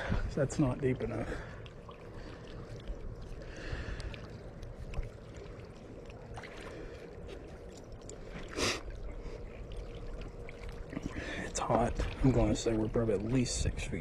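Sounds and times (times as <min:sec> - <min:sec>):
rumble of moving water: 0:00.0 - 0:14.0
wind: 0:00.0 - 0:14.0.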